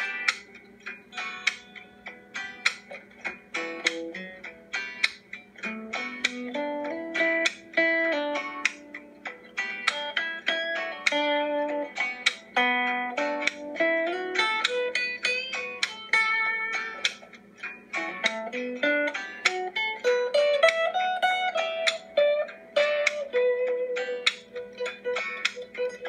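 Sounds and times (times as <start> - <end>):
guitar picked melody: 0.0 - 26.0.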